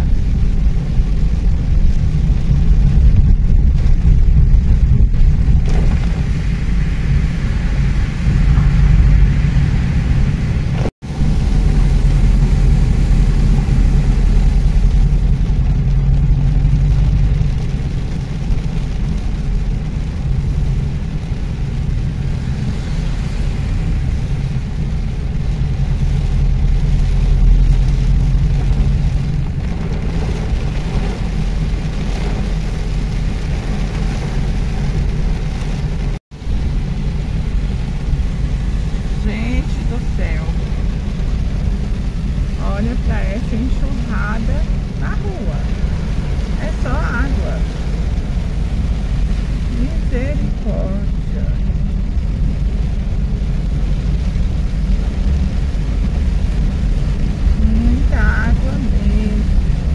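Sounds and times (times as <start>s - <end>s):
car engine and tyre noise: 0.0s - 59.9s
rain hiss: 0.0s - 59.9s.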